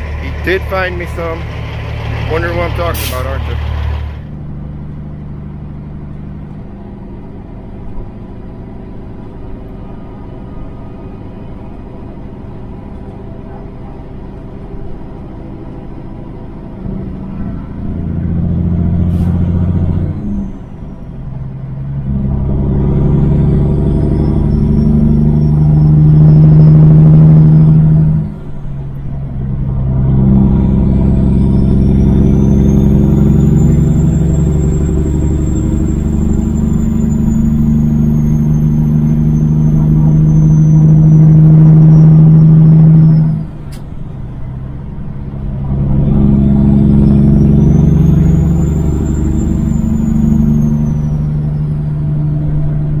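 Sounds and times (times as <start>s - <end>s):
truck diesel engine under load: 0.0s - 53.0s.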